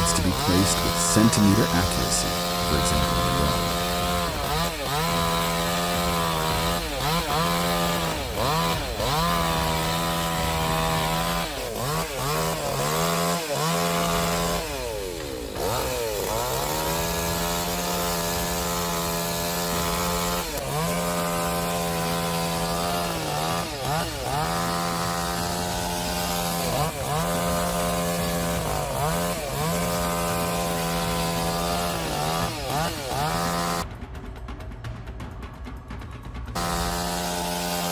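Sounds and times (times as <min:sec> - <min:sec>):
chainsaw running at high revs: 0:00.0 - 0:33.9, 0:36.6 - 0:37.9.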